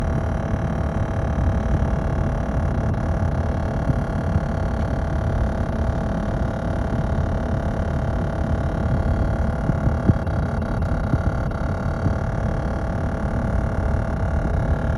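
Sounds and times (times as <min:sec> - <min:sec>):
constant whine: 0:00.0 - 0:14.9.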